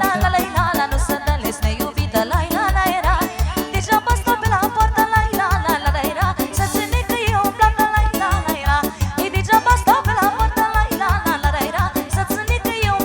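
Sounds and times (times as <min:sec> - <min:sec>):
live party music: 0:00.0 - 0:13.0.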